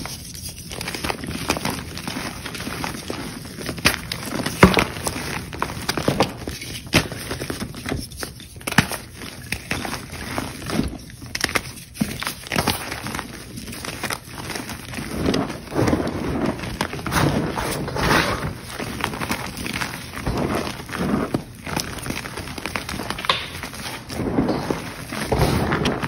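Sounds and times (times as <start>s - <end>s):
chalk crumbling and crackling: 0.0s - 26.0s.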